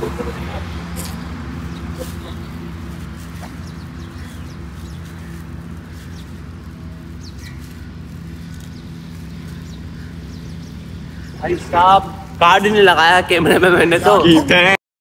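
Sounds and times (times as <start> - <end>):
steady low hum: 0.0 - 14.8
bird chirps: 0.6 - 12.7.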